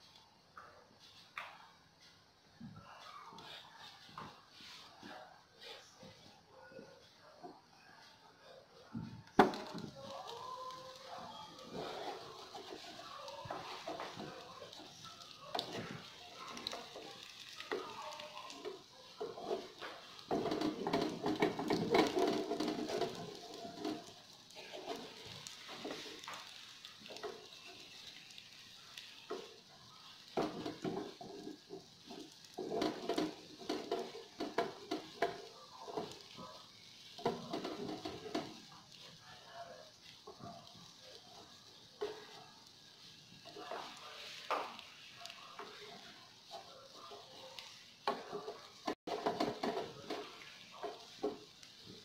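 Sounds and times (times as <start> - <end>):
omelette sizzling in oil: 0.0 - 52.0
wooden spatula scraping pan: 9.4 - 39.0, 39.9 - 52.0.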